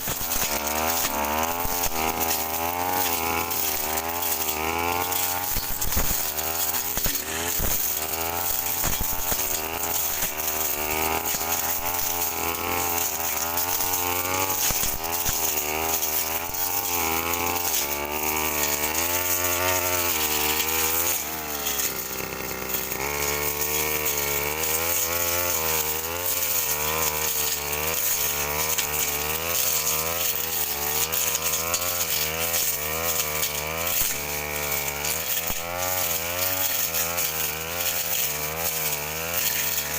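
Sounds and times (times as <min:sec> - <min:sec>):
blade cutting grass: 0:00.0 - 0:39.9
brush cutter engine running: 0:00.0 - 0:39.9.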